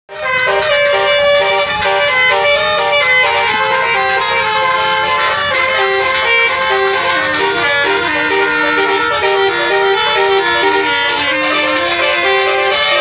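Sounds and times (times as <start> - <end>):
musical car horn melody: 0.1 - 13.0.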